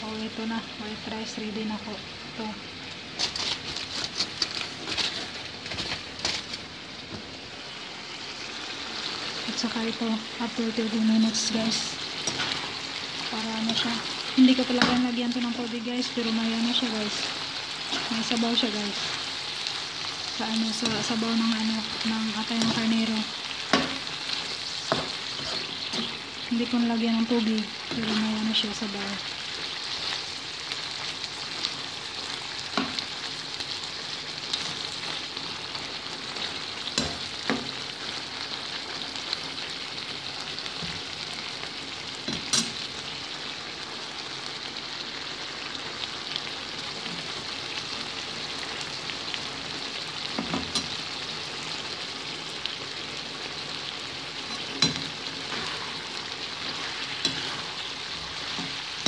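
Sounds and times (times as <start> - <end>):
liver sizzling in a pan: 0.0 - 59.0.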